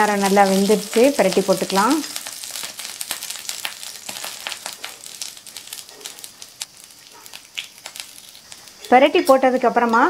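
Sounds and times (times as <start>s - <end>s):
batter sizzling and crackling in oil: 0.0s - 10.0s.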